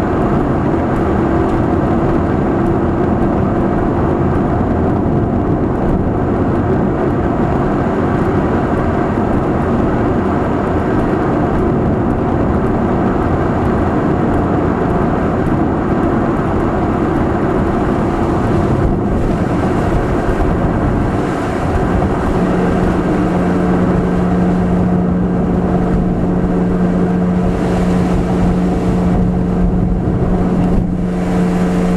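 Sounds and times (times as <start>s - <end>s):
car engine droning: 0.0s - 31.9s
road noise: 0.0s - 31.9s.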